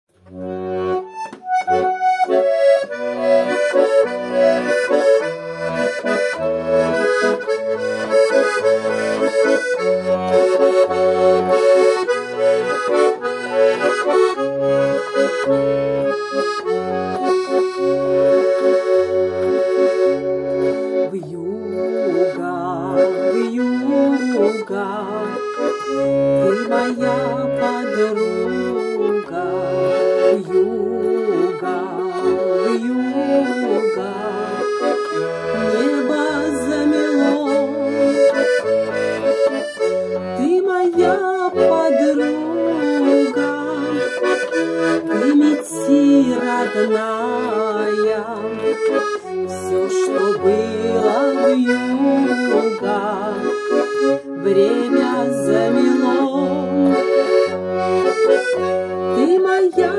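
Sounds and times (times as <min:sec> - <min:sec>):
button accordion folk melody: 0:00.1 - 0:59.9.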